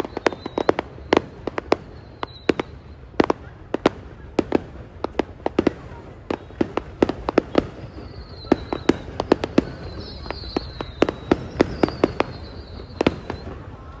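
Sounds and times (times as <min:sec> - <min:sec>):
faint high whistle: 0:00.0 - 0:03.6, 0:05.9 - 0:14.0
fireworks bangs: 0:00.0 - 0:14.0.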